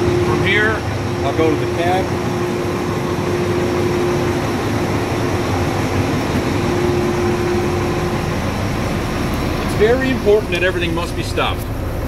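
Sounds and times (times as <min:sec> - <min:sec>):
diesel engine running: 0:00.0 - 0:12.0
steady hum: 0:00.0 - 0:12.0.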